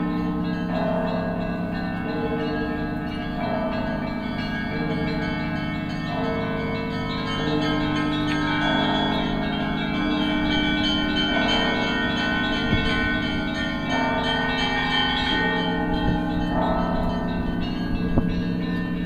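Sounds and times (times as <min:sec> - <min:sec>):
church bells pealing: 0:00.0 - 0:19.0
hum of large bells: 0:00.0 - 0:19.0.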